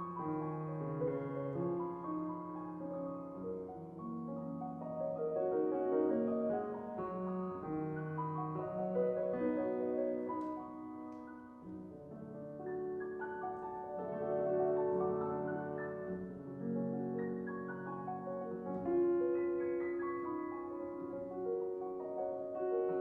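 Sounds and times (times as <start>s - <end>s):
classical piano playing: 0.0s - 23.0s.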